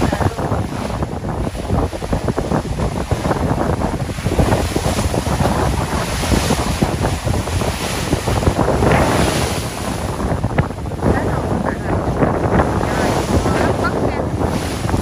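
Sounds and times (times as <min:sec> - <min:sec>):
sea waves breaking: 0:00.0 - 0:15.0
wind buffeting microphone: 0:00.0 - 0:15.0.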